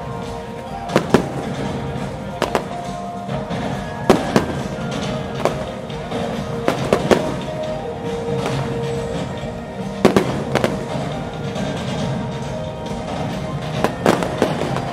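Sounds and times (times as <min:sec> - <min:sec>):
fireworks bursting with sharp bangs: 0:00.0 - 0:14.9
music with held notes: 0:00.0 - 0:14.9.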